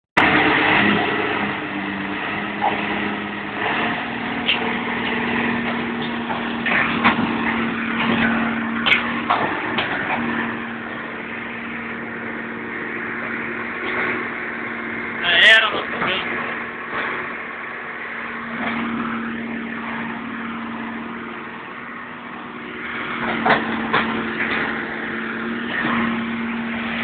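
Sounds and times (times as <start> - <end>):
demolition machine engine running: 0.2 - 27.0.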